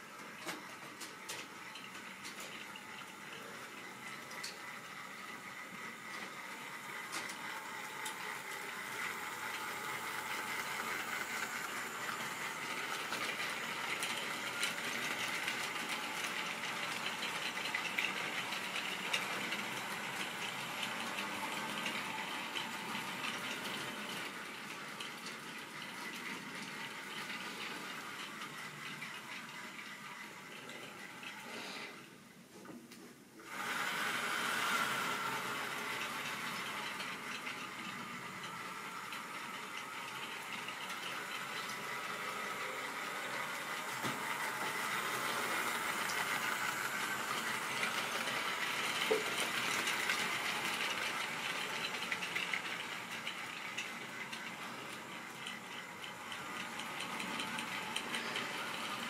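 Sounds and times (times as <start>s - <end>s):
model train wheels rattling on rail: 0.0s - 32.1s, 33.4s - 59.0s.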